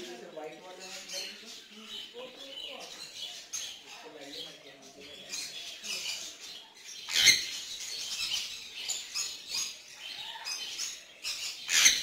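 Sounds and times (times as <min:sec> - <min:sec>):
parrots chirping and squeaking: 0:00.4 - 0:12.0.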